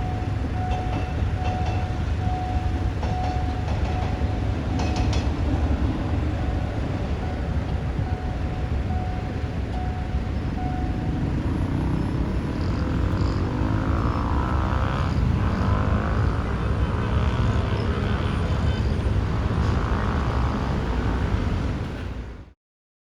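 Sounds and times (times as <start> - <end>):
train rumbling and rattling: 0.0 - 22.4.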